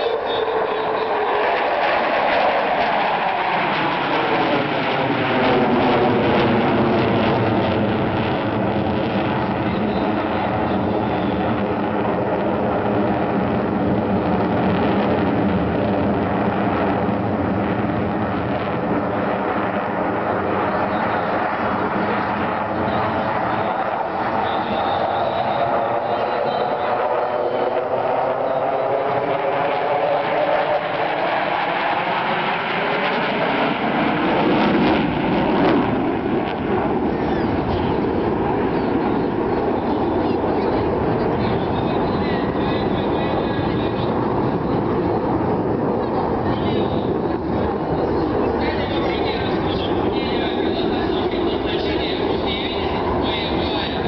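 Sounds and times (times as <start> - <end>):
jet engines flying over: 0.0 - 54.0.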